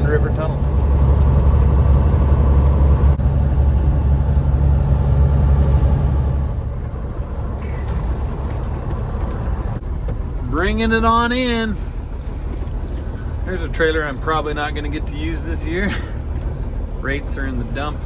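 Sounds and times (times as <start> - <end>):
diesel engine drone: 0.0 - 18.0
road noise: 0.0 - 18.0.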